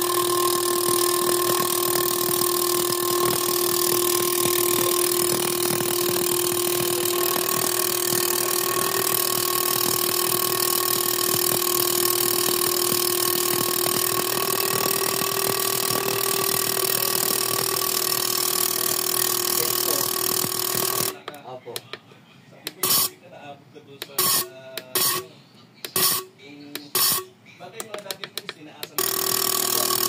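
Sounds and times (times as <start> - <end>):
machine hum with rapid ticking: 0.0 - 21.3, 25.9 - 30.0.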